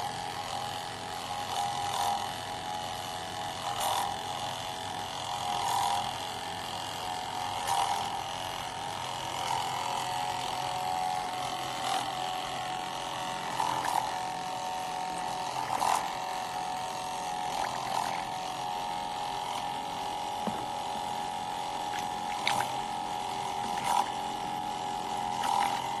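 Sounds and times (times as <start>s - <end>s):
electric pump humming: 0.0s - 26.0s.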